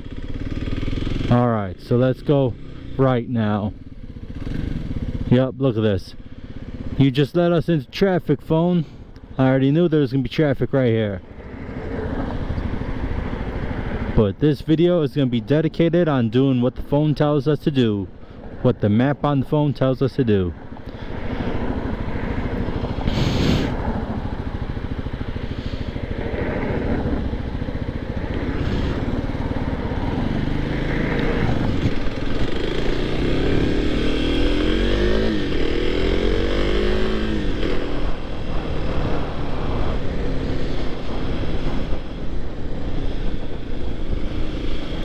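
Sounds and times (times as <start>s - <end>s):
motorcycle engine accelerating: 0.0s - 9.6s, 11.2s - 14.2s, 20.5s - 45.0s.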